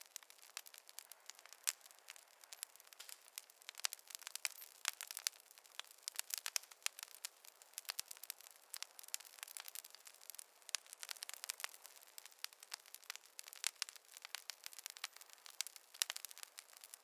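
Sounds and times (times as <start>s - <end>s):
faint hiss: 0.0s - 17.0s
wood fire crackling and popping: 0.0s - 17.0s.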